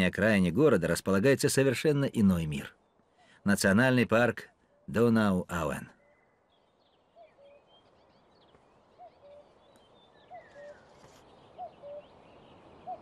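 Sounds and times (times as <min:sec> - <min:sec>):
songbird chirps and trills: 0:00.0 - 0:13.0.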